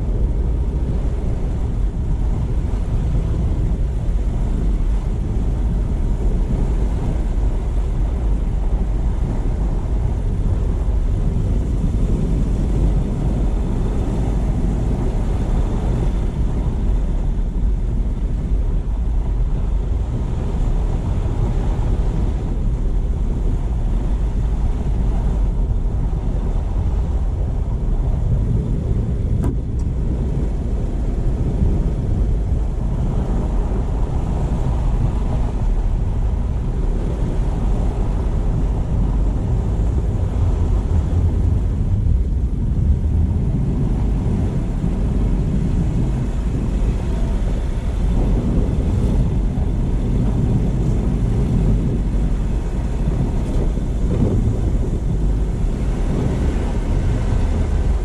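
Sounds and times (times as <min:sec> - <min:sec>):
car road and tyre noise: 0:00.0 - 0:58.0.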